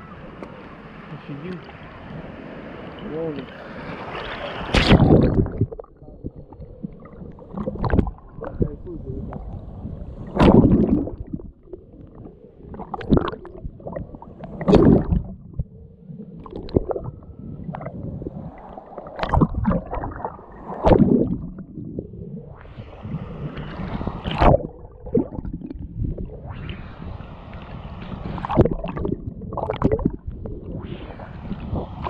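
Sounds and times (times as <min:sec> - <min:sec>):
waves splashing over camera: 0:00.0 - 0:32.0
water gurgling: 0:03.1 - 0:26.8, 0:28.0 - 0:32.0.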